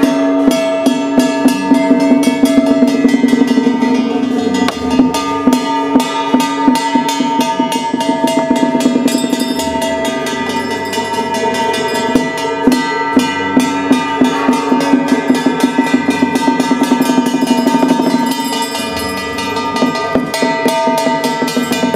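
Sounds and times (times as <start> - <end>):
drums and percussion ensemble: 0.0 - 21.9
handbell shaken rapidly: 0.0 - 21.9.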